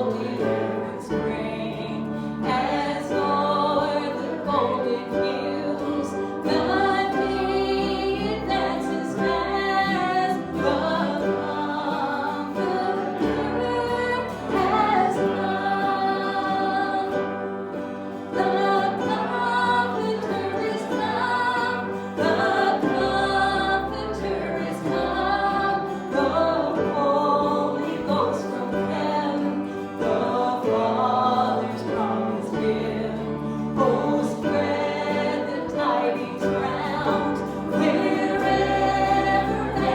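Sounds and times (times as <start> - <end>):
congregation singing: 0.0 - 39.9
instrumental accompaniment: 0.0 - 39.9.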